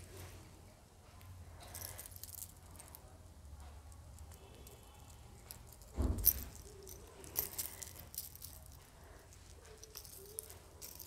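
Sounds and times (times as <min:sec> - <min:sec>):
earring metallic clicks and jingling: 0:01.6 - 0:11.0.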